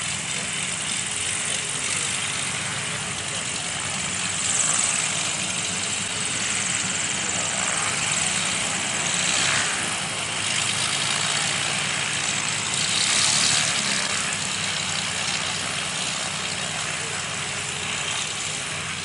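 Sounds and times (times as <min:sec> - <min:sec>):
propeller planes idling: 0:00.0 - 0:19.0.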